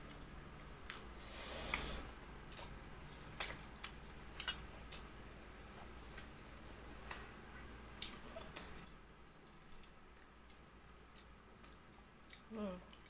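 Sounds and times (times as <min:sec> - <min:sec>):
mouth clicks and smacks chewing: 0:02.5 - 0:13.0.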